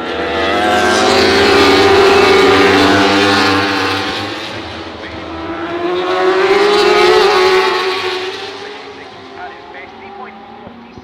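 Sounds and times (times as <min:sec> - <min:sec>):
motorbike engines passing: 0:00.0 - 0:11.0.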